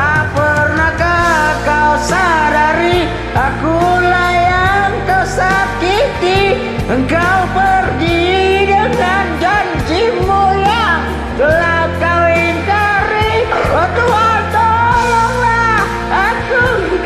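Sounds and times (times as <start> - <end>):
gliding melodic lead line: 0.0 - 17.0
pop ballad backing track: 0.0 - 17.0.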